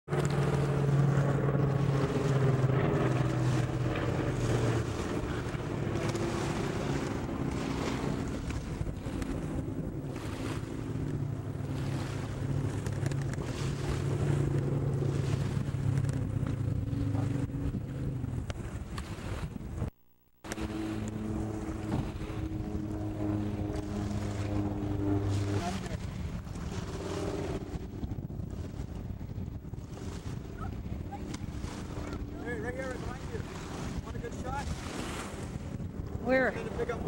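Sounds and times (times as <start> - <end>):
propeller plane engine drone: 0.1 - 37.0
wind buffeting microphone: 0.1 - 37.0.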